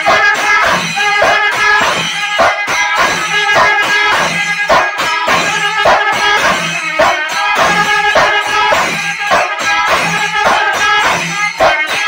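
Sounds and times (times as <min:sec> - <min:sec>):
drums beaten with sticks: 0:00.0 - 0:12.0
pipes holding steady notes: 0:00.0 - 0:12.0
ringing cymbals: 0:00.0 - 0:12.0.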